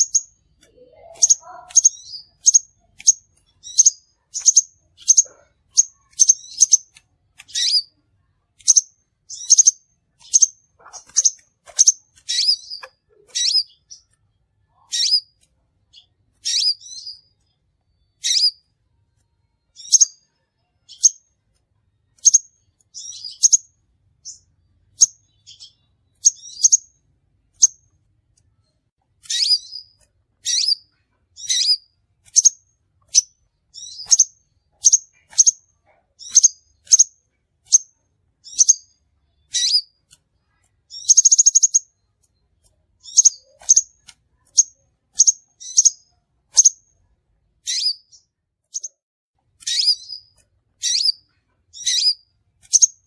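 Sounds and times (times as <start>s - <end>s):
bird high-pitched chips: 0.0s - 8.0s, 8.6s - 14.2s, 14.8s - 18.7s, 19.6s - 28.0s, 29.1s - 46.9s, 47.6s - 53.0s.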